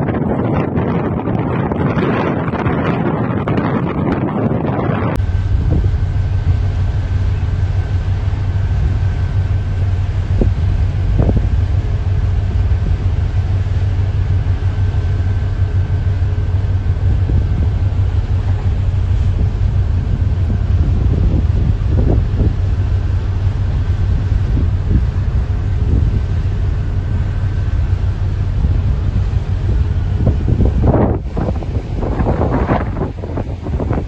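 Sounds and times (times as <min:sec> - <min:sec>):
ship engine rumbling: 0:00.0 - 0:34.0.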